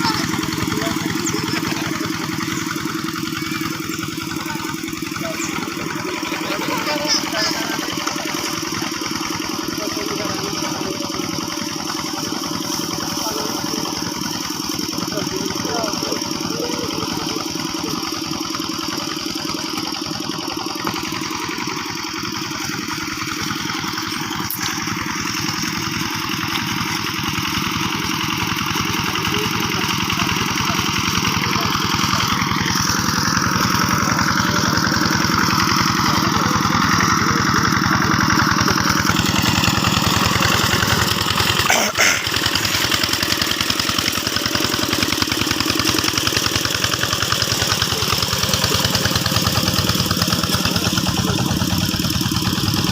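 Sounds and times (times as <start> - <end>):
diesel engine chugging: 0.0 - 52.9.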